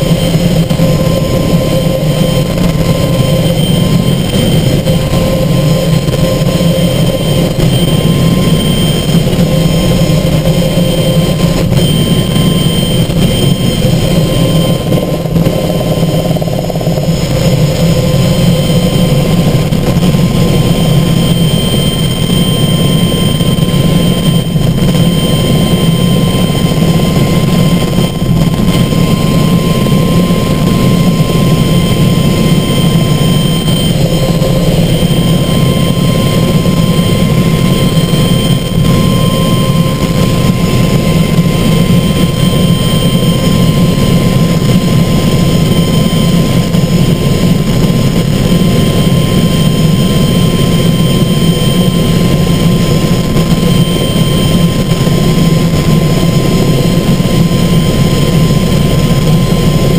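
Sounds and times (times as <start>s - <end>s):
helicopter engine and rotor drone: 0.0s - 59.9s
thin steady whine: 0.0s - 59.9s.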